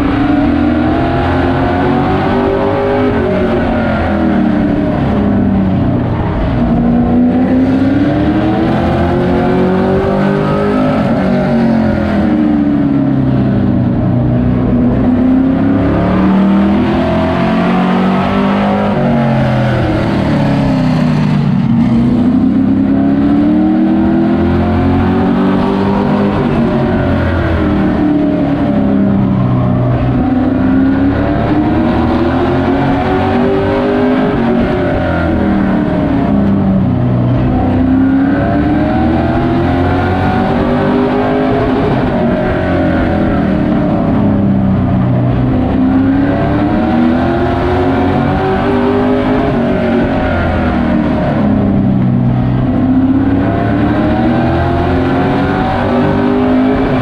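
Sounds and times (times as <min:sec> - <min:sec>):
race truck engine: 0:00.0 - 0:57.0.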